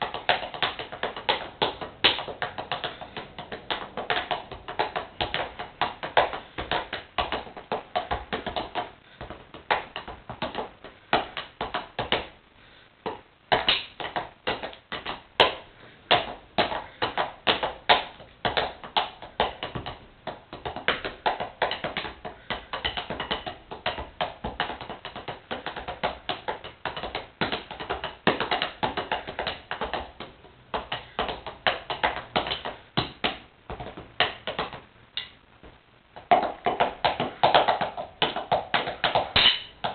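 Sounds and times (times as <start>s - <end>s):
drumsticks tapping on sneakers: 0.0s - 12.4s, 13.0s - 39.9s.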